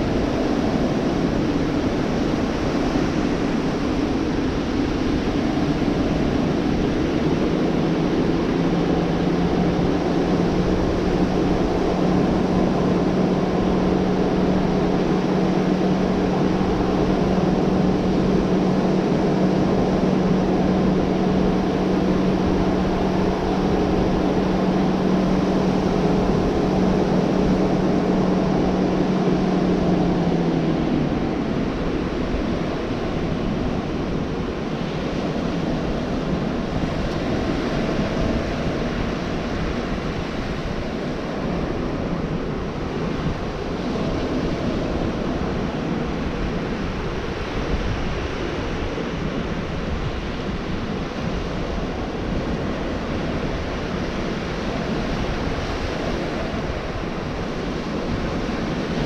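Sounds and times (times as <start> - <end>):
engine hum: 0.0 - 59.0
surf washing onto beach: 0.0 - 59.0
wind on microphone: 0.0 - 59.0.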